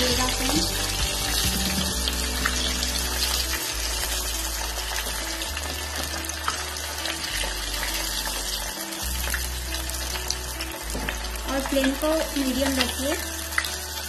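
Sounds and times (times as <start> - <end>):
fish deep-frying in oil: 0.0 - 14.0.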